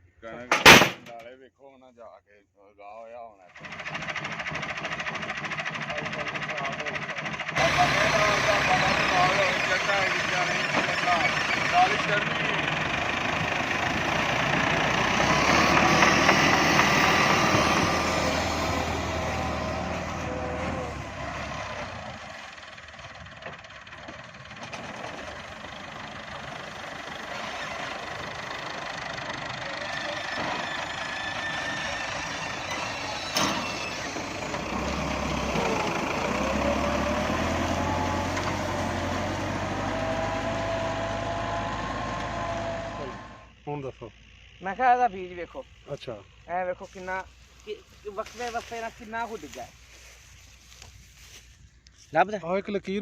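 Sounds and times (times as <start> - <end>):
tractor engine running: 3.5 - 52.0.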